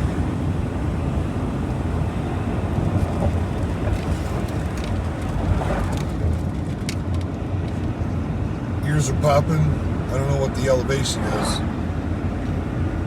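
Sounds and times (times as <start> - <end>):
truck engine and road noise: 0.0 - 13.0.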